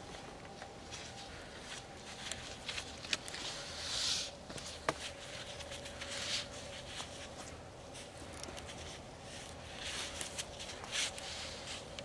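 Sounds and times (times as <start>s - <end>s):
rope swishing and rustling: 0.0s - 12.0s.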